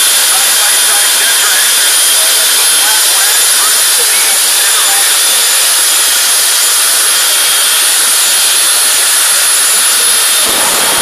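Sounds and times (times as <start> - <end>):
afterburner blast: 0.0 - 11.0
turbine engine rushing and whistling: 0.0 - 11.0.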